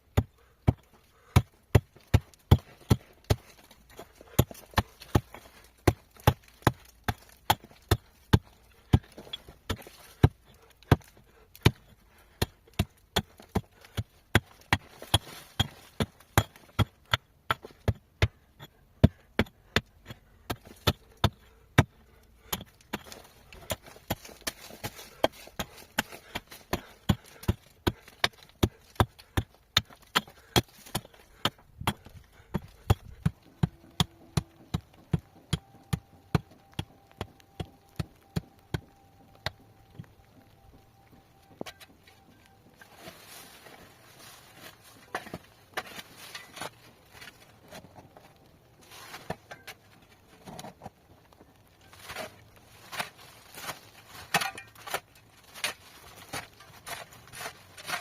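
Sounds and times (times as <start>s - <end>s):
hand tool striking rock: 0.1s - 40.7s, 41.6s - 43.3s, 44.6s - 47.8s, 51.8s - 58.0s.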